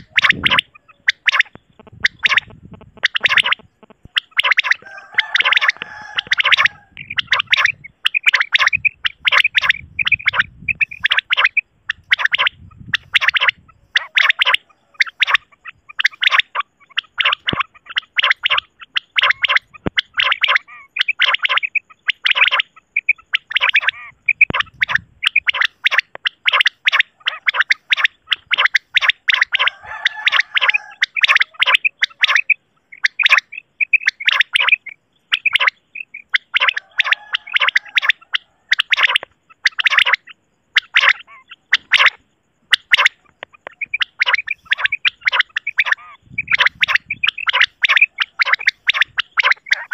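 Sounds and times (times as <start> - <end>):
quail calls: 0.0 - 49.9.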